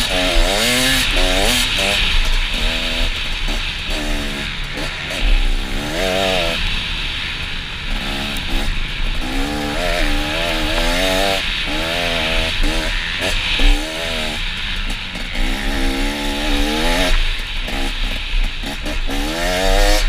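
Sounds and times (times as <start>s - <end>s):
motorbike engine revving: 0.0s - 20.0s
steady rushing noise: 0.0s - 20.0s.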